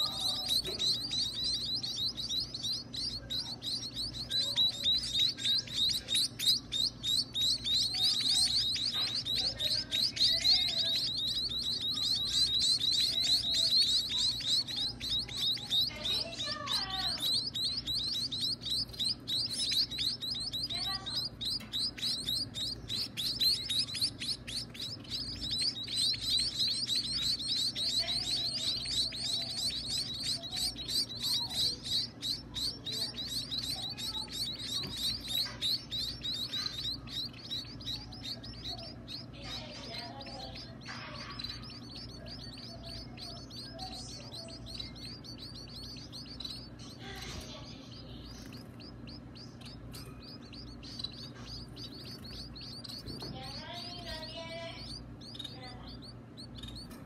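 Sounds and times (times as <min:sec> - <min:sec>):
nestling birds chittering: 0:00.0 - 0:57.0
steady low hum: 0:00.0 - 0:57.0.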